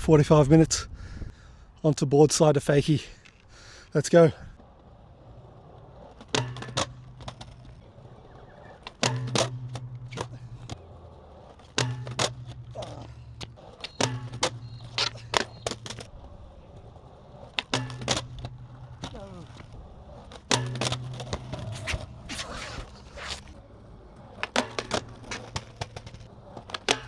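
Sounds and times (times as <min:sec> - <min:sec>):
skateboard wheels rolling on concrete: 0:02.4 - 0:27.0
skateboard clacking on ground: 0:04.6 - 0:27.0.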